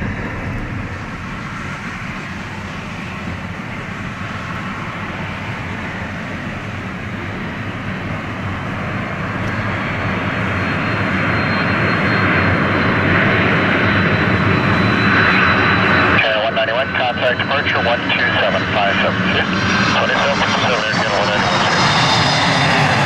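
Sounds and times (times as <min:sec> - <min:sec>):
jet engine rush: 0:00.0 - 0:23.0.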